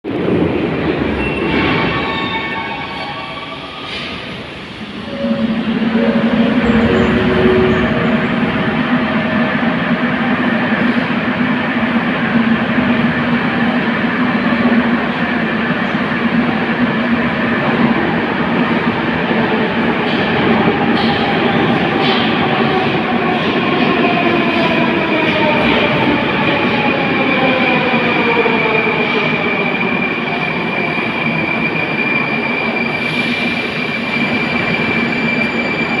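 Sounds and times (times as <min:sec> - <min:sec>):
metro train wheels rumbling: 0:00.0 - 0:36.0.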